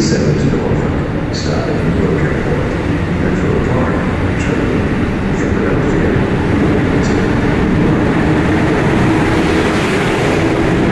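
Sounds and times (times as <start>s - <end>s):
train wheels rumbling on rail: 0.0s - 10.9s.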